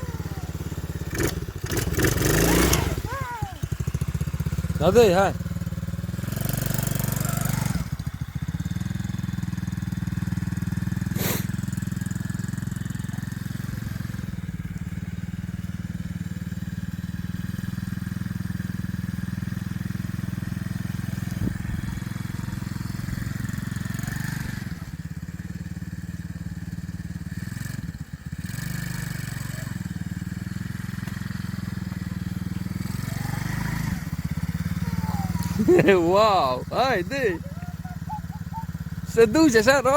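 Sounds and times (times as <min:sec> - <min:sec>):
small atv engine running: 0:00.0 - 0:39.9.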